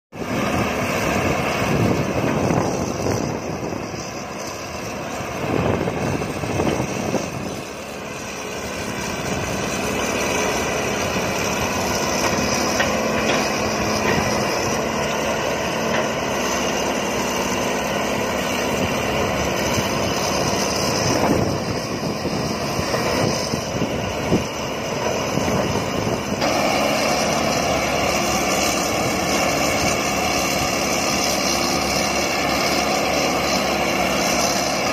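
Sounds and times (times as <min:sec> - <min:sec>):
excavator diesel engines running: 0:00.2 - 0:34.9.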